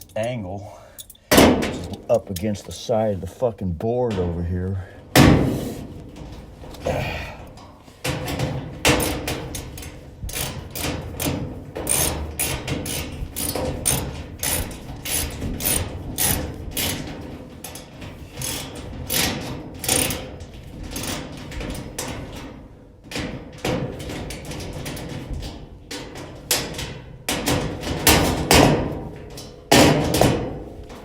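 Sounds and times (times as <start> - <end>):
sheet-metal panel knocks and clanks: 1.3 - 2.2, 5.1 - 31.0.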